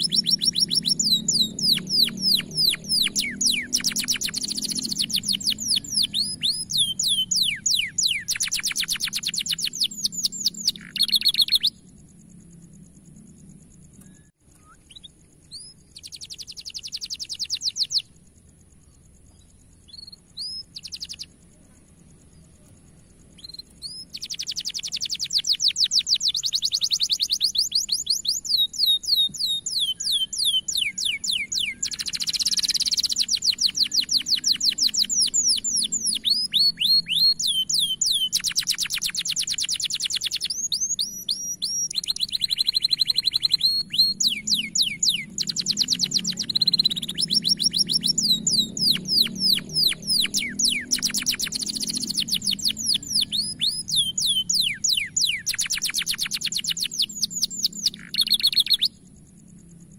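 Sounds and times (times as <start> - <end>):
canary chirps: 0.0 - 12.9, 13.6 - 59.3
canary singing trills: 0.0 - 59.9.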